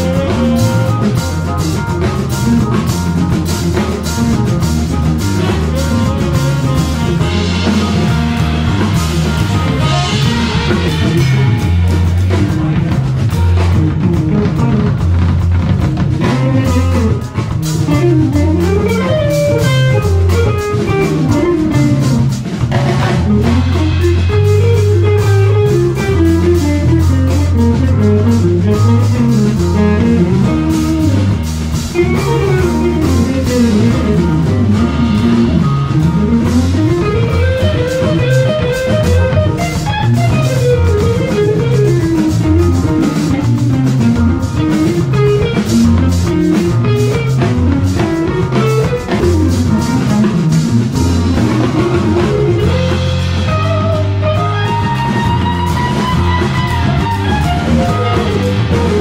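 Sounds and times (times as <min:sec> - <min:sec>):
bass guitar: 0:00.0 - 0:59.0
drum kit with cymbals: 0:00.0 - 0:59.0
electric guitar: 0:00.0 - 0:59.0.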